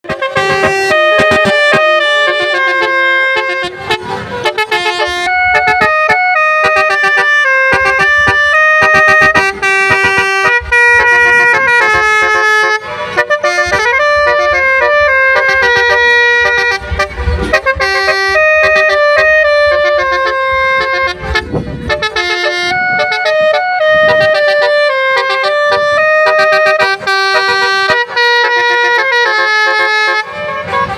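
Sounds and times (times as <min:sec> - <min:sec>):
multi-tone musical vehicle horn: 0:00.0 - 0:30.9.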